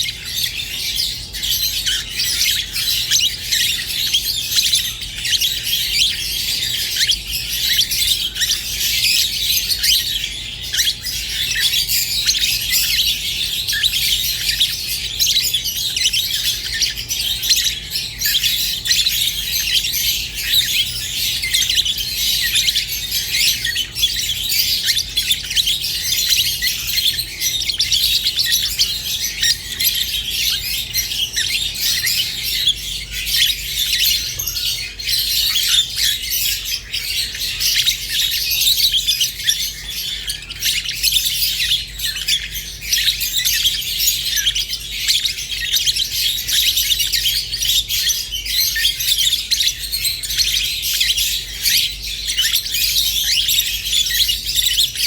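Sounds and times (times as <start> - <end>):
lovebirds chattering and chirping: 0.0 - 55.0.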